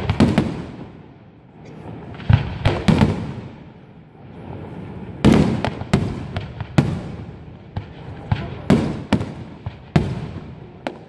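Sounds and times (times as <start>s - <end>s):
smaller firework reports: 0.0s - 11.0s.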